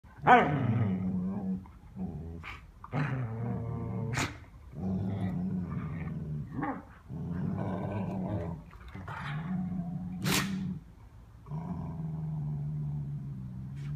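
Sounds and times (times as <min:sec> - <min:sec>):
dogs play-growling: 0:00.2 - 0:13.9.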